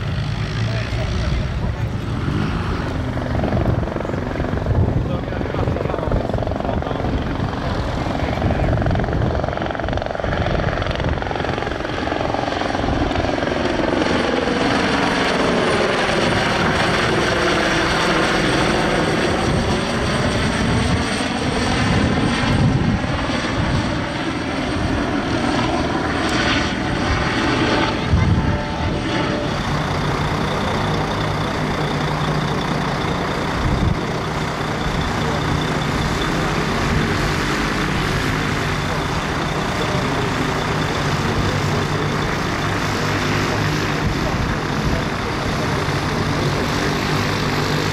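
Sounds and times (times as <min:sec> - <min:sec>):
helicopter flying overhead: 0:00.0 - 0:47.9.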